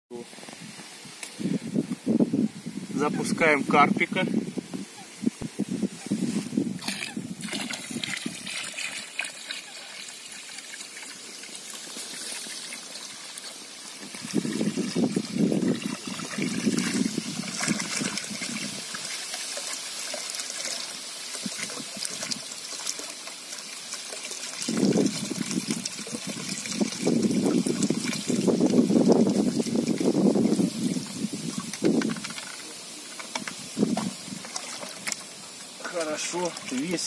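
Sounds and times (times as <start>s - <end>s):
water splashing and trickling: 0.2s - 37.0s
water pouring into pond: 4.9s - 37.0s.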